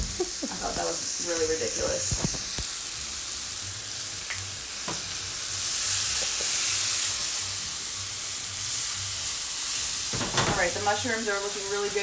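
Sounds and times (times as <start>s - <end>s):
mushrooms sizzling in a pan: 0.0s - 12.0s.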